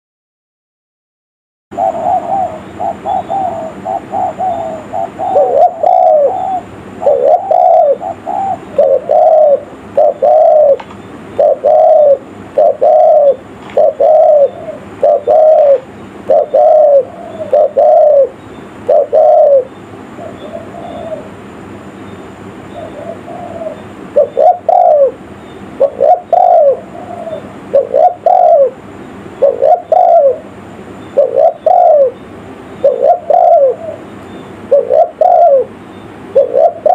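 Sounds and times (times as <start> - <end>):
dove cooing: 1.7 - 21.4, 22.7 - 25.2, 25.8 - 28.8, 29.4 - 30.5, 31.1 - 32.2, 32.8 - 36.9.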